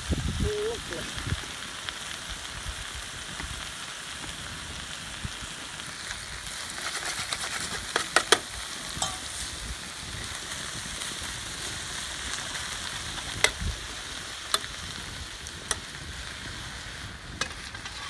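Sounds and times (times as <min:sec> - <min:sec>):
food sizzling in metal pan: 0:00.0 - 0:18.0.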